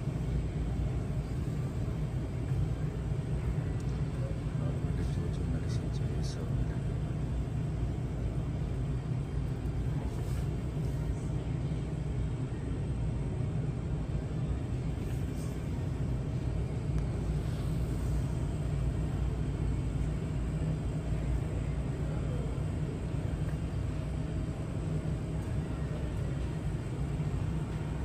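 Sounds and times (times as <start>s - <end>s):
faint steady hum: 0.0s - 28.0s
store background rumble: 0.0s - 28.0s.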